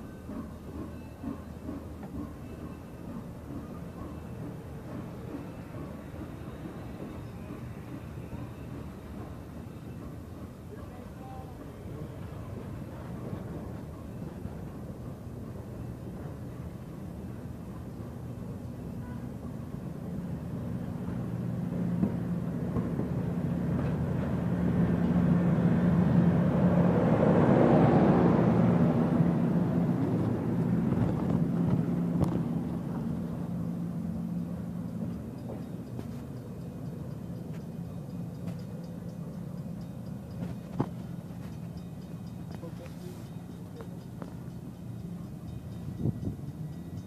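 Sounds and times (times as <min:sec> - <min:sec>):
diesel locomotive engine hum: 0:00.0 - 0:47.0
train wheels rumbling: 0:00.0 - 0:47.0.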